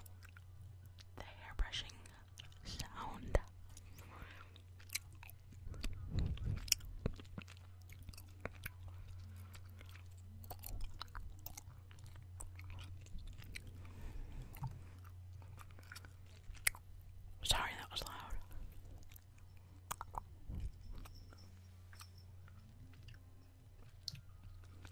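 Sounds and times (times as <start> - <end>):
steady low hum: 0.0 - 24.9
gum chewing mouth clicks: 2.1 - 16.9, 17.5 - 24.9.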